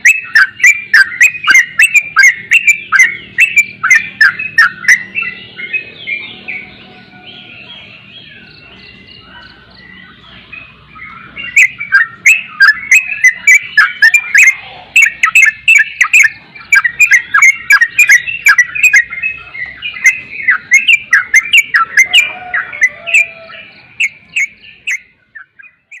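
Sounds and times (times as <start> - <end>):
bird chirping rapid sharp notes: 0.0 - 26.0.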